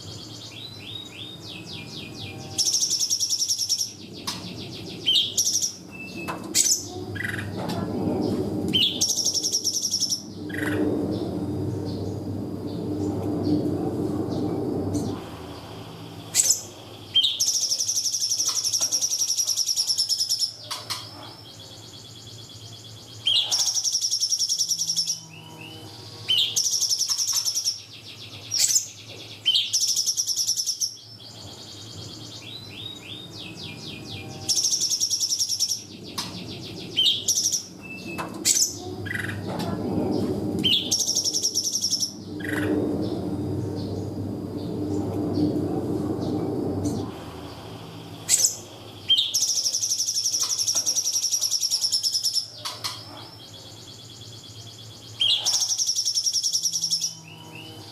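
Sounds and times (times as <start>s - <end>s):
bird song rattling bursts: 1.0s - 13.6s, 14.2s - 57.9s.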